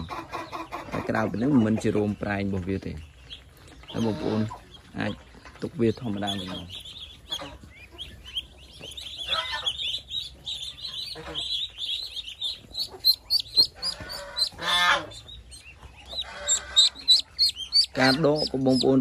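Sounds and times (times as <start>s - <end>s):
ducklings peeping: 0.0s - 19.0s.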